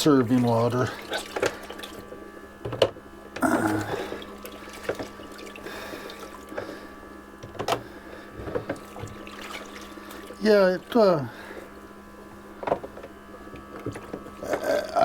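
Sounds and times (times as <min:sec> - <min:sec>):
water running in sink: 0:00.0 - 0:15.0.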